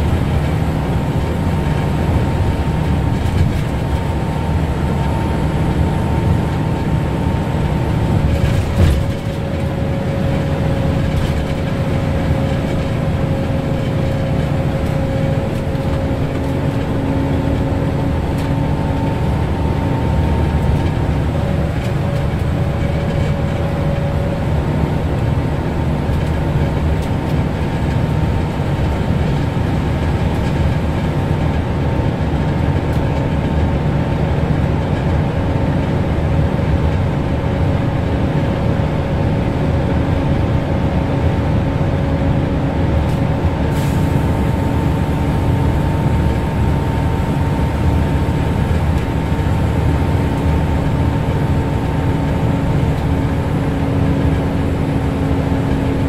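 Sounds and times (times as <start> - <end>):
bus engine and road drone: 0.0 - 56.0.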